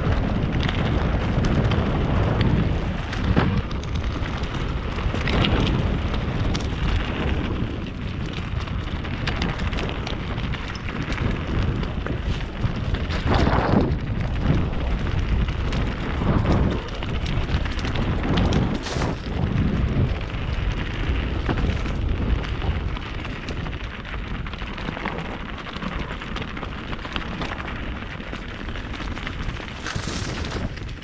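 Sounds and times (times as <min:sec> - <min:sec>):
bike clattering over stones: 0:00.0 - 0:31.0
wind rumbling on microphone: 0:00.0 - 0:31.0.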